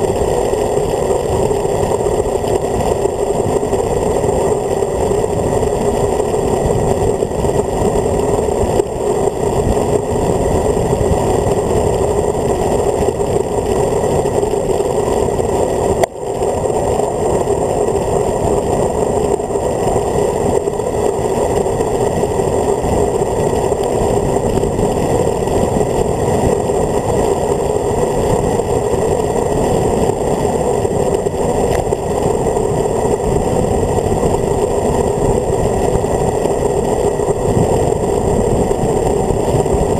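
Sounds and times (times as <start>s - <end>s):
bicycle tyre noise on tarmac: 0.0s - 39.9s
wind rumble on microphone: 0.0s - 39.9s.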